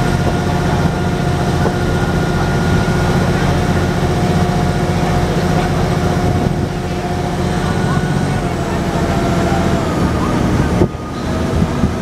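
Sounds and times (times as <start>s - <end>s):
boat engine droning: 0.0s - 12.0s
constant hum: 0.0s - 12.0s.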